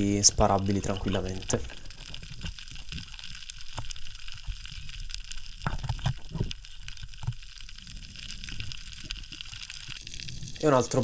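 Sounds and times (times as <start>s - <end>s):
underwater crackling hiss: 0.0s - 11.0s.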